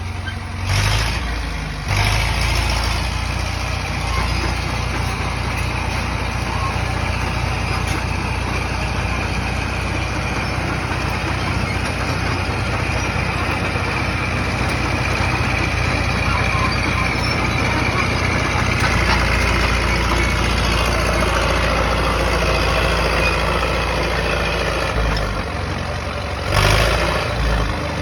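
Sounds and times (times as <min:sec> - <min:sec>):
dozer diesel engine running: 0:00.0 - 0:28.0.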